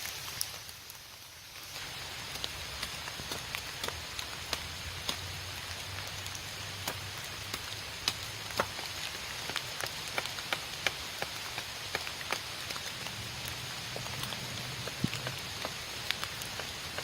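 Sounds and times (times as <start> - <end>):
rain hissing: 0.0 - 17.0
raindrops ticking close by: 0.0 - 17.0.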